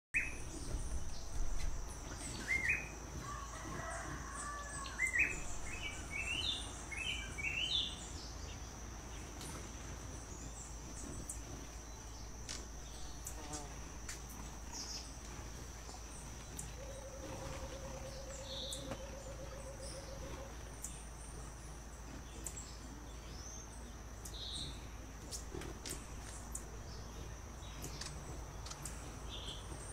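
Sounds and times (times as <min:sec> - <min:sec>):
high insect whine: 0:00.2 - 0:29.9
low pulsing buzz: 0:00.2 - 0:29.9.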